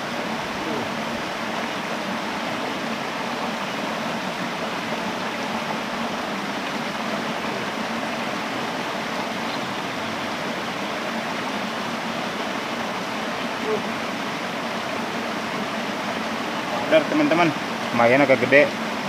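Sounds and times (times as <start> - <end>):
stream rushing over rapids: 0.0 - 19.0.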